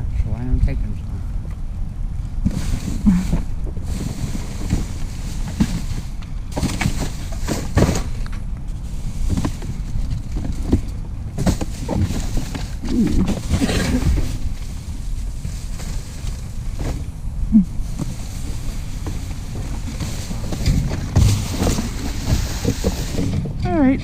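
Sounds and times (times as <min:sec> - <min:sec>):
rustles and knocks: 0:02.4 - 0:17.1, 0:17.8 - 0:23.7.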